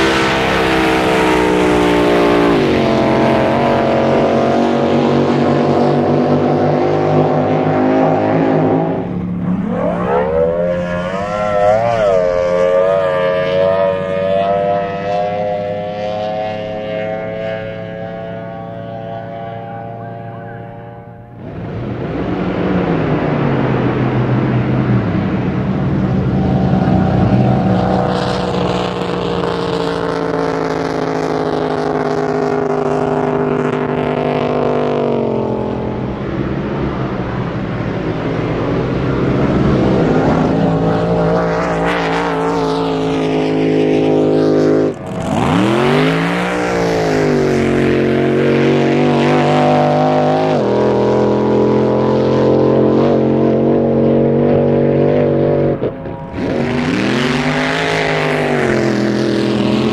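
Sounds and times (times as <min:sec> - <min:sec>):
racing boat engines at full throttle: 0:00.0 - 0:59.9.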